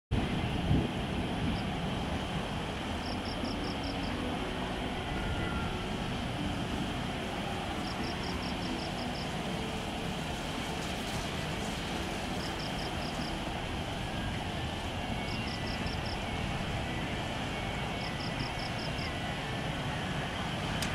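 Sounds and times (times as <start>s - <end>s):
distant jet engine rumble: 0.1s - 20.9s.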